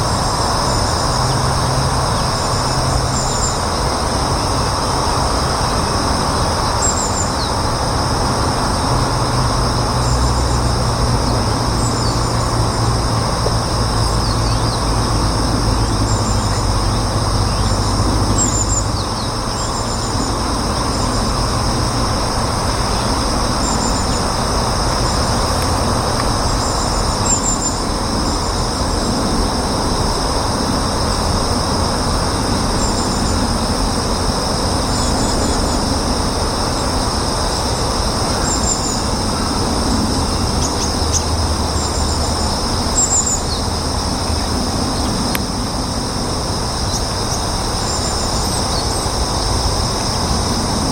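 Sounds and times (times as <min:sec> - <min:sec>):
insects trilling: 0:00.0 - 0:50.9
low mechanical rumble: 0:00.0 - 0:50.9.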